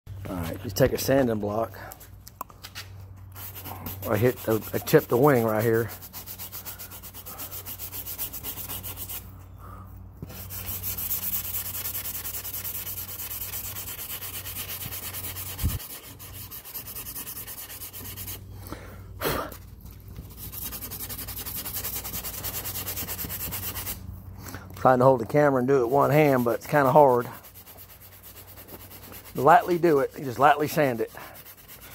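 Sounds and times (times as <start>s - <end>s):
sandpaper rubbing back and forth: 3.3s - 9.4s, 10.2s - 18.5s, 19.5s - 24.1s, 24.8s - 31.9s.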